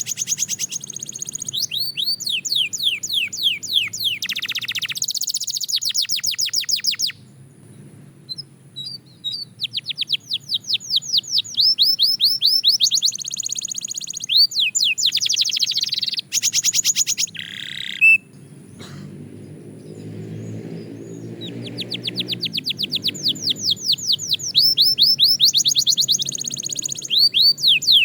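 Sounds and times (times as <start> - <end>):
single bird chirps: 0.0 - 7.2, 8.3 - 18.4, 20.8 - 28.0
canary singing rolls: 0.0 - 28.0.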